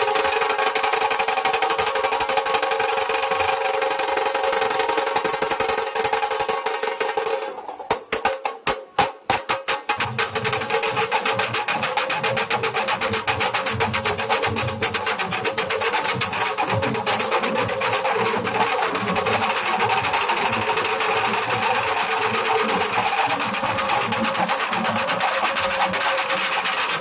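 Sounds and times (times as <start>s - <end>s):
dhol drums beaten with sticks: 0.0s - 27.0s.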